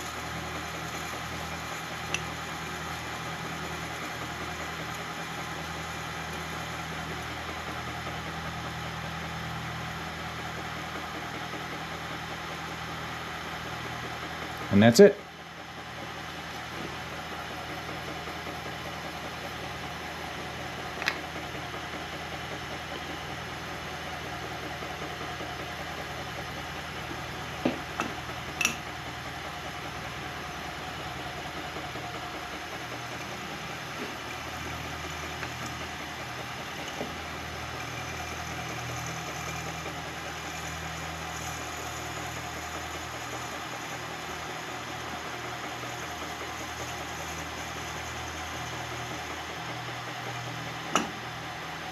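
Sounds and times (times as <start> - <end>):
milling machine motor humming: 0.0 - 51.9.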